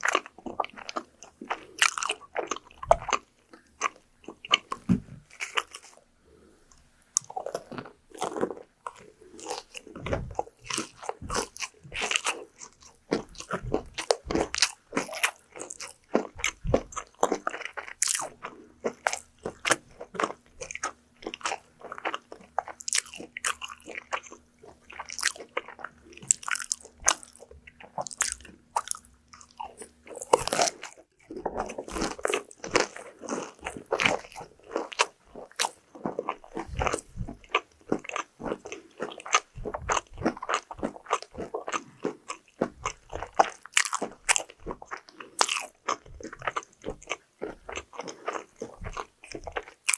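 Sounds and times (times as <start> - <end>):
chewing crispy fried food: 0.0 - 6.1, 6.7 - 49.9.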